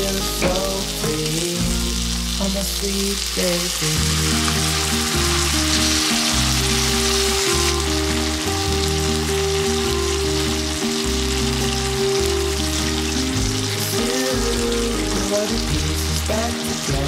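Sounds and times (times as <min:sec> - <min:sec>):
food sizzling in hot oil: 0:00.0 - 0:17.0
pop song with bass line: 0:00.0 - 0:17.0.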